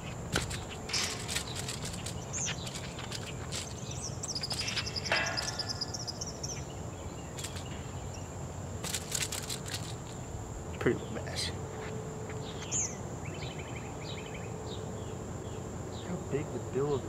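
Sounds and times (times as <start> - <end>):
bird chirping trill: 0.0 - 11.6, 12.2 - 17.0
high insect whine: 0.0 - 17.0
rustle: 0.0 - 17.0.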